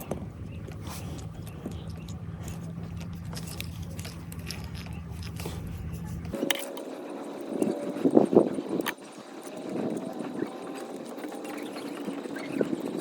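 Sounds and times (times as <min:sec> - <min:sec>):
sharp clicks and crackles: 0:00.0 - 0:13.0.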